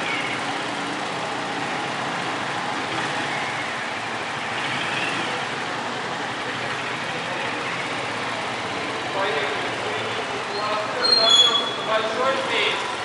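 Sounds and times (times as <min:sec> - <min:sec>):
vehicle engine: 0:00.0 - 0:13.0.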